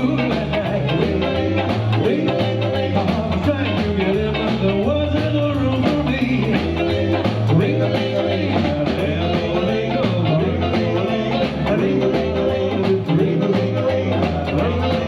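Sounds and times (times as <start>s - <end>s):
doo-wop band playing instrumental: 0.0s - 15.0s.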